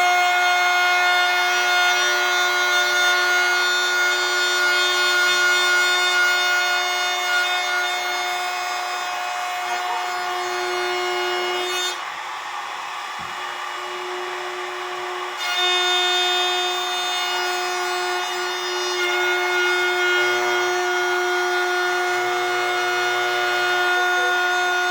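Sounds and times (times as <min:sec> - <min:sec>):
power tool motor whine: 0:00.0 - 0:24.9.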